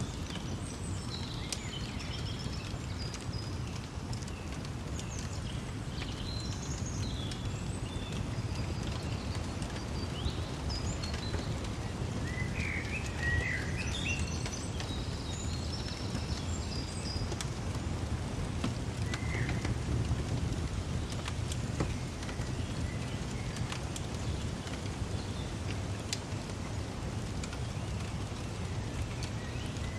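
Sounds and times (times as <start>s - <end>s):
songbirds chirping: 0.0s - 29.9s
wood fire crackles: 0.0s - 29.9s.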